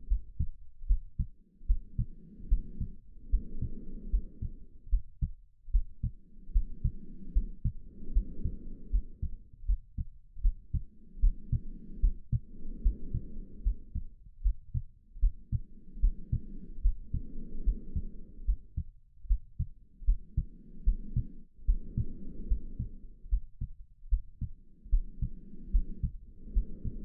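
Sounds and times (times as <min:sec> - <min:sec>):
heartbeat thumping: 0:00.0 - 0:27.0
slow breathing: 0:01.2 - 0:27.0.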